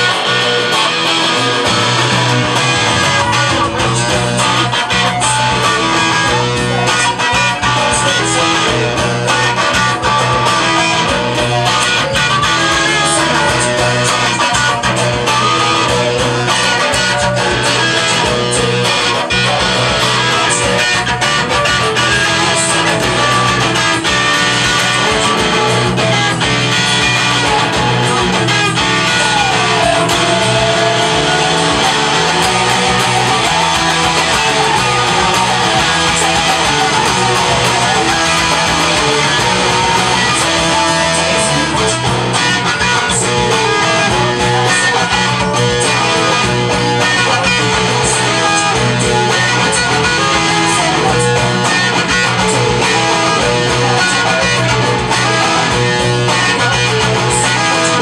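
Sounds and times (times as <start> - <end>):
electric guitar: 0.0 - 58.0
rock band recording: 0.0 - 58.0.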